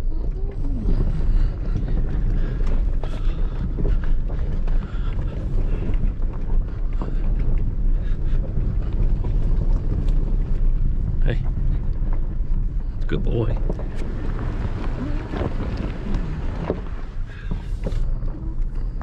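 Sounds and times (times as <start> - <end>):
truck low rumble: 0.0 - 19.0.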